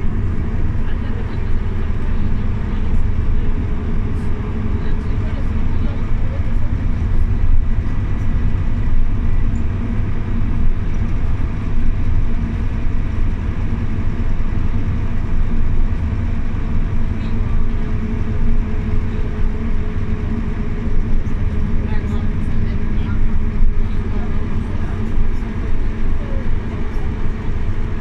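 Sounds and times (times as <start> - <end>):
bus engine droning: 0.0 - 28.0
road noise: 0.0 - 28.0.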